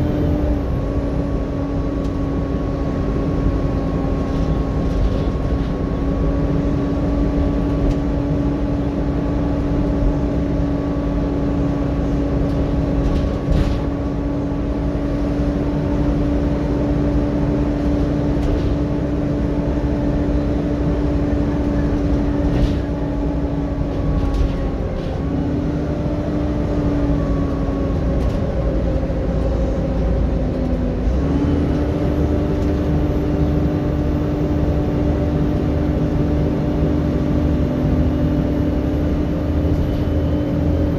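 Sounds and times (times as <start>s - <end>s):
cooling fan whine: 0.0s - 40.9s
diesel bus engine rumble: 0.0s - 40.9s.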